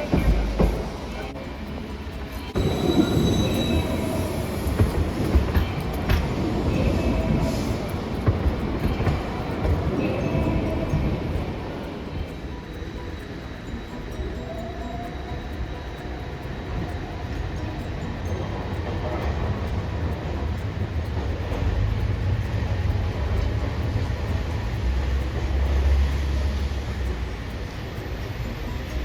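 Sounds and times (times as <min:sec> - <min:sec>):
streetcar rumbling on rails: 0:00.0 - 0:29.0.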